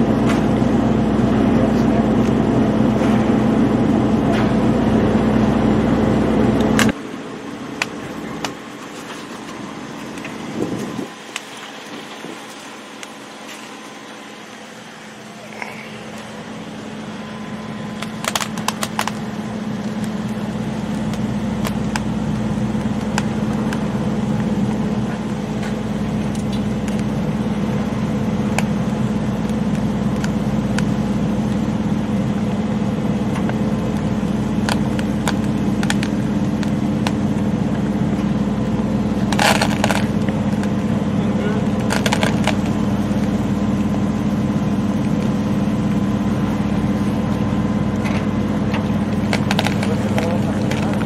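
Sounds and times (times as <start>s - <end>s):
machine engine running: 0.0s - 51.0s.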